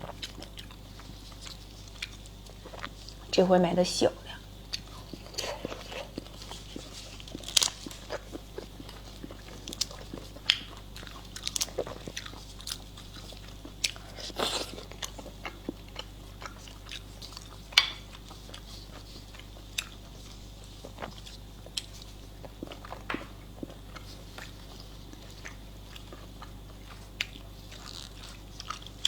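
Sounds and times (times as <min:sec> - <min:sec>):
person chewing crunchy food: 0:00.0 - 0:03.3, 0:04.4 - 0:29.0.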